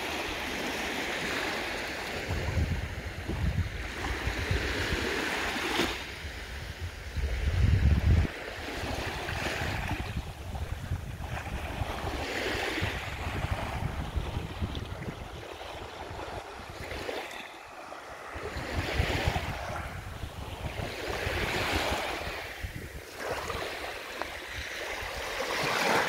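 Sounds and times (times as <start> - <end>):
small waves washing onto shore: 0.0 - 26.0
wind buffeting microphone: 2.1 - 17.3, 18.1 - 26.0.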